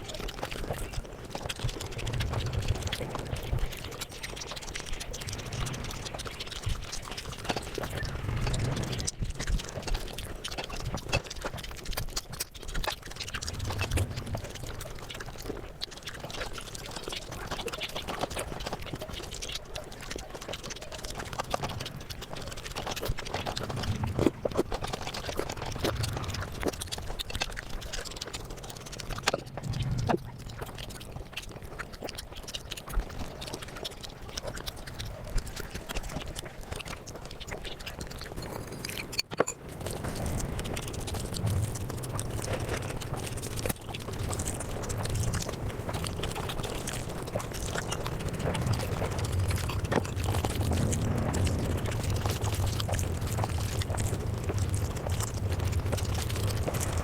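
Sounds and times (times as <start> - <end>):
sped-up chewing and mouth clicks: 0.0 - 57.0.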